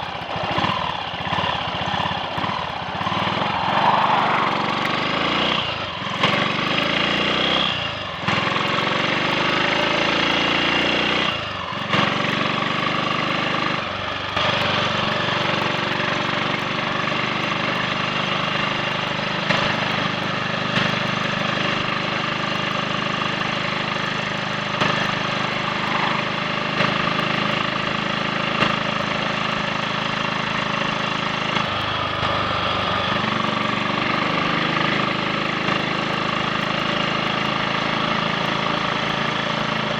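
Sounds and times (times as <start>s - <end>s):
motorcycle engine changing gears: 0.0s - 39.9s.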